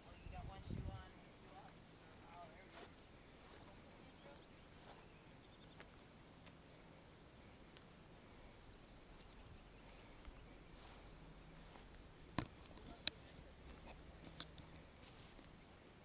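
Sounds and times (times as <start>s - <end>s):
faint rustles: 0.6s - 16.0s.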